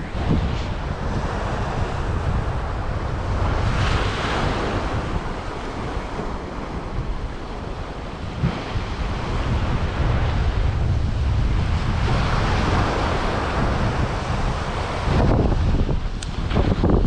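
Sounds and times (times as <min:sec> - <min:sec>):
small waves washing onto beach: 0:00.0 - 0:17.0
wind rumbling on microphone: 0:00.0 - 0:17.0.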